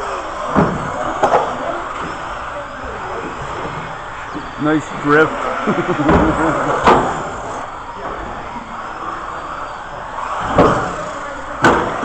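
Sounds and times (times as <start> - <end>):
electric motor whines: 0.0 - 12.0.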